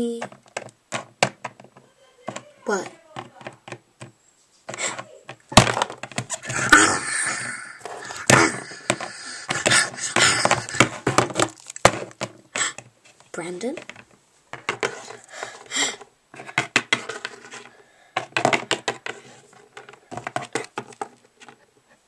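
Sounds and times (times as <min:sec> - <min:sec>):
plastic toys clacking on wooden floor: 0:00.0 - 0:04.1, 0:04.7 - 0:12.9, 0:13.6 - 0:21.6.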